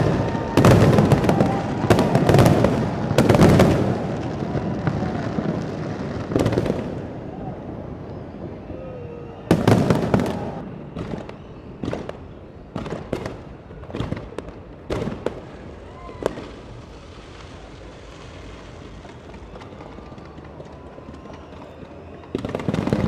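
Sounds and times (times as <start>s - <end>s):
crowd hubbub: 0.0s - 23.0s
fireworks bangs and cracks: 0.0s - 23.0s.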